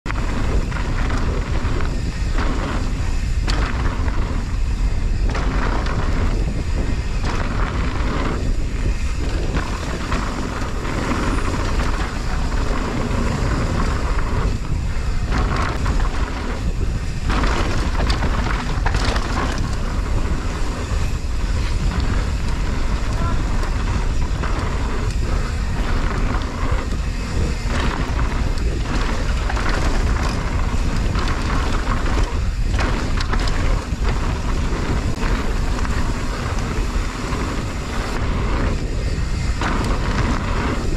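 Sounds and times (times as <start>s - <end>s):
bike tyre and riding noise: 0.0s - 40.9s
wind rumble on microphone: 0.0s - 40.9s.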